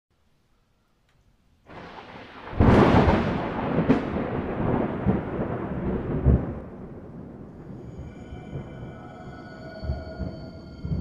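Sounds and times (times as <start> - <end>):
thunder cracks and rumble: 1.7 - 11.0.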